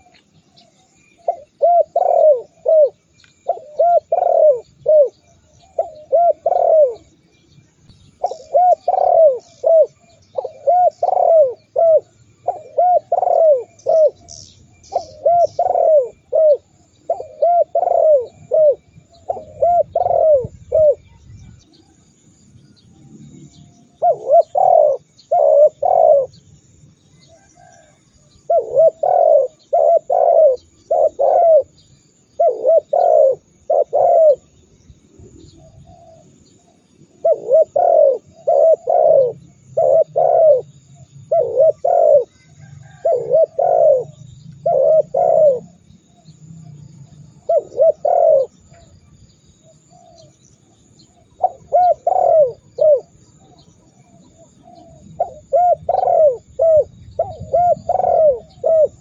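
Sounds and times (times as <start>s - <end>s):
dove cooing: 0.0s - 7.2s, 8.2s - 22.0s, 23.5s - 26.5s, 27.2s - 49.0s, 49.6s - 59.0s
small birds chirping: 0.0s - 27.9s, 28.5s - 59.0s.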